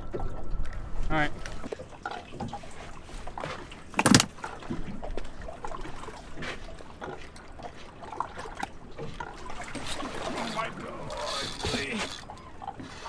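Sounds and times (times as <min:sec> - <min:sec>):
water lapping against boat hull: 0:01.2 - 0:13.0.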